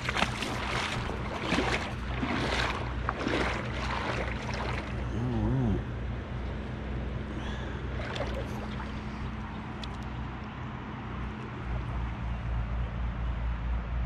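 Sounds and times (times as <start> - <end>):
river rumble and hiss: 0.0 - 12.7.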